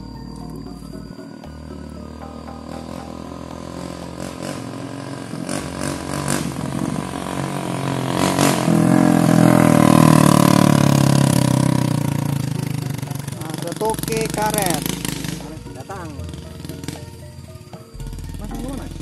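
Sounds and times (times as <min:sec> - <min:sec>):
motorcycle engine passing: 0:00.0 - 0:19.0.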